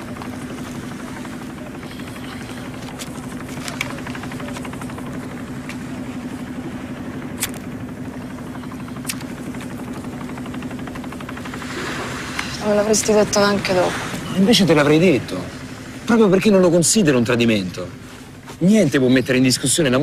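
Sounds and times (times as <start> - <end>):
motor humming with fast pulse: 0.0 - 18.4.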